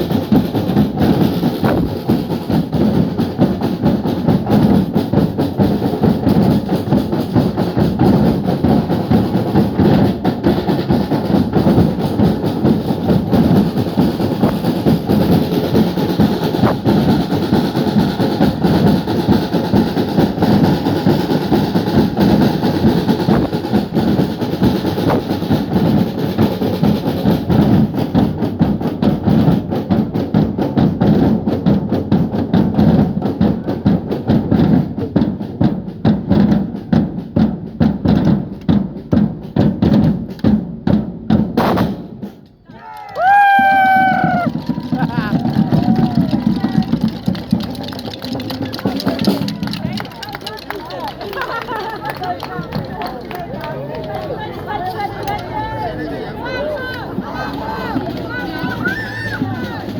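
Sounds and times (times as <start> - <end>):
group drumming loud and fast: 0.0 - 54.8, 56.6 - 59.9.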